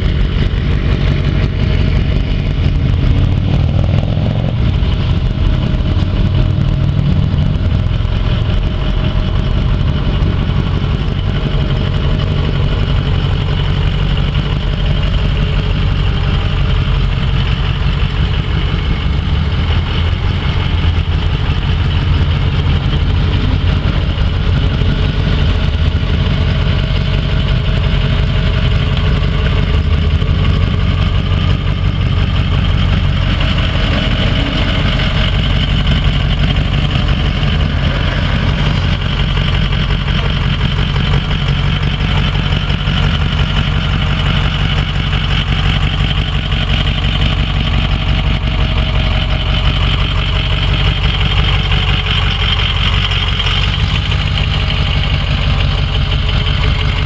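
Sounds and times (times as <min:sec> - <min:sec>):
pickup truck engine droning: 0:00.0 - 0:57.0.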